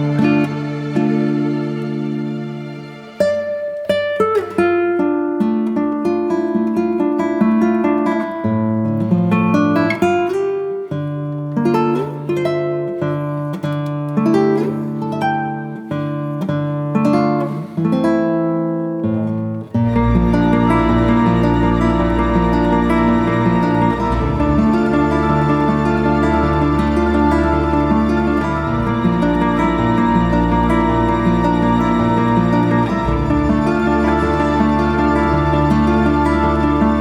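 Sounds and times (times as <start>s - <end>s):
plucked acoustic guitar music: 0.0s - 37.0s.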